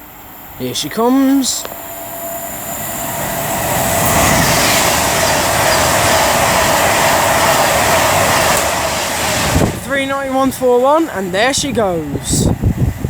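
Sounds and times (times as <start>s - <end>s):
train rushing past: 0.0s - 13.0s.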